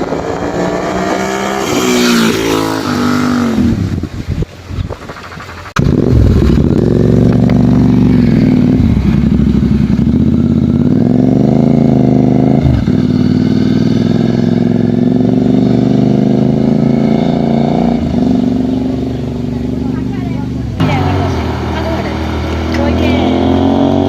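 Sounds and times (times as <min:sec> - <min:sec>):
motorcycle engine under load: 0:00.0 - 0:24.0.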